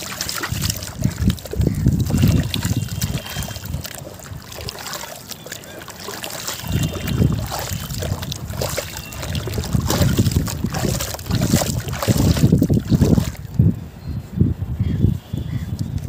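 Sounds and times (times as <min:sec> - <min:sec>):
wet squelching and sloshing: 0:00.0 - 0:13.6.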